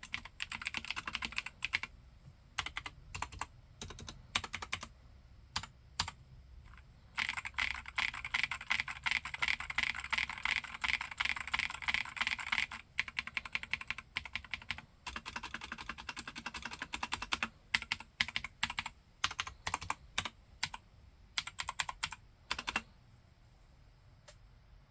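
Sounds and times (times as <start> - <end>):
typing on mechanical keyboard: 0.0 - 1.9, 2.6 - 4.9, 5.6 - 20.8, 21.4 - 22.9.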